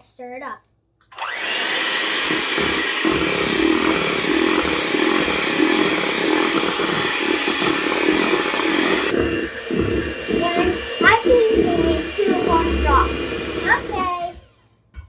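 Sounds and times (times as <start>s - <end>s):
electric hand mixer whisking: 1.1s - 14.7s.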